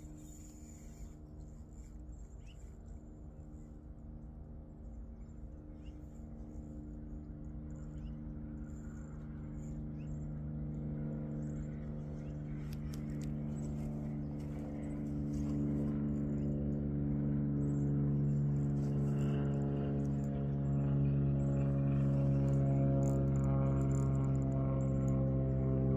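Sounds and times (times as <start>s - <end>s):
low droning hum: 0.0s - 25.9s.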